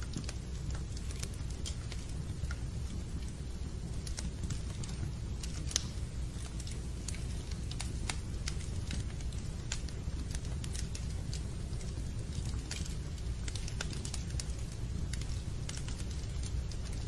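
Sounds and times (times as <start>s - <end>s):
fire crackling: 0.0s - 17.0s
low rumble of flames: 0.0s - 17.0s.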